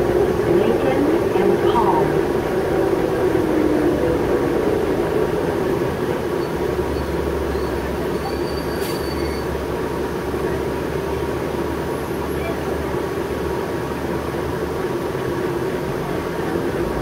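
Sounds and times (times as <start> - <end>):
bus drivetrain whine: 0.0 - 17.0
road and cabin noise: 0.0 - 17.0.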